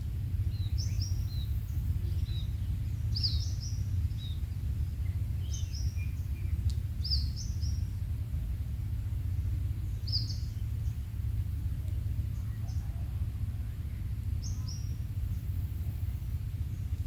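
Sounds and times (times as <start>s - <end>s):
low rumble: 0.0s - 17.0s
small birds chirping: 0.4s - 8.1s, 9.2s - 17.0s.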